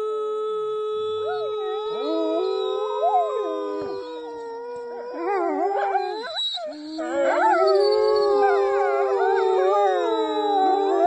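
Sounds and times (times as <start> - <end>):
woman howling: 0.0 - 6.2, 7.0 - 11.0
canines howling: 0.6 - 11.0.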